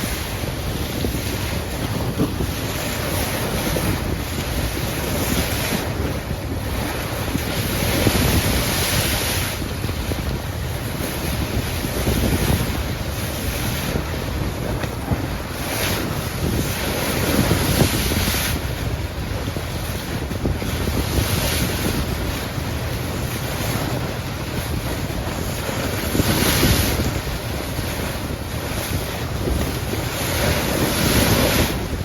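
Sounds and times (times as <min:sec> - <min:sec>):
ship bow wave rushing: 0:00.0 - 0:32.0
wind buffeting microphone: 0:00.0 - 0:32.0.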